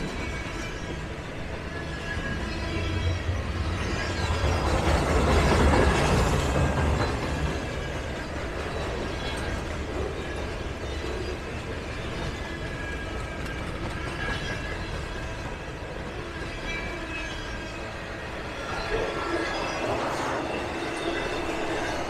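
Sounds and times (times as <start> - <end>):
train rumbling and rattling: 0.0 - 22.0.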